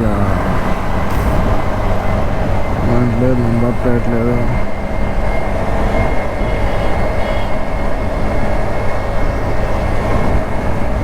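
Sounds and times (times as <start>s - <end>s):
faint scooter engine: 0.0s - 11.0s
wind and road noise: 0.0s - 11.0s.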